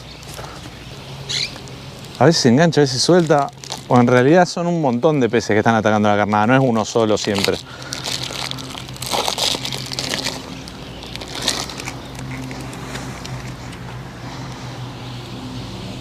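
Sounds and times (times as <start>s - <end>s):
crackling handling noises: 0.0s - 14.7s
low engine-like hum: 0.0s - 16.0s.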